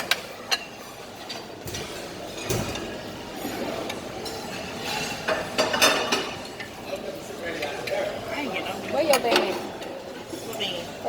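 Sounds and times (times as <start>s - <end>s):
dishes clinking: 0.0s - 8.1s, 8.9s - 11.0s
steady background noise: 0.0s - 11.0s.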